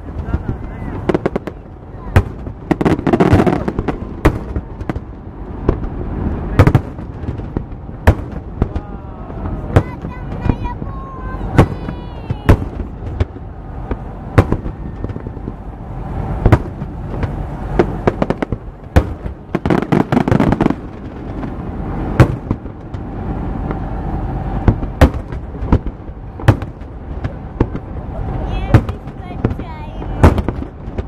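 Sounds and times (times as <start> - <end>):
firework crackling: 0.0 - 31.0.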